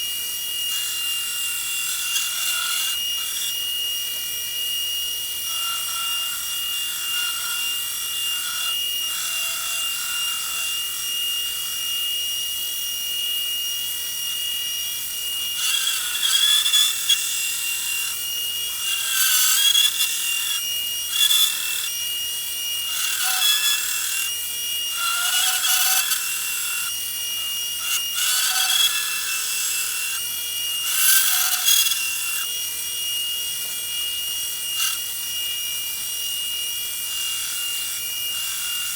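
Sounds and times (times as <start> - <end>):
blade grinding on sander: 0.0 - 38.9
power sander whining: 0.0 - 38.9.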